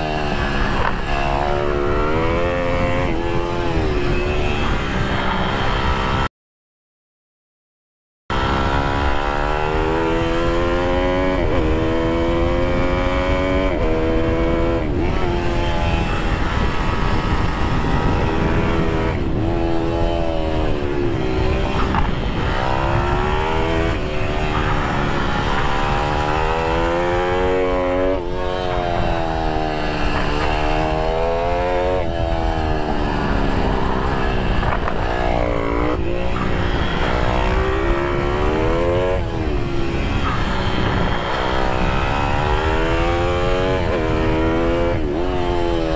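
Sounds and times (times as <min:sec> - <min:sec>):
wind on microphone: 0:00.0 - 0:06.3, 0:08.5 - 0:45.9
pit bike engine revving: 0:08.3 - 0:45.9.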